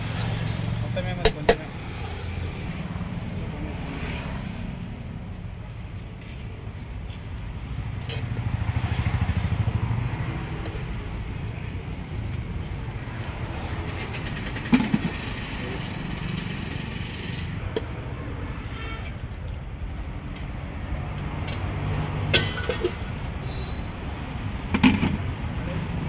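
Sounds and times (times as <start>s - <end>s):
traffic engine rumble: 0.0s - 26.0s.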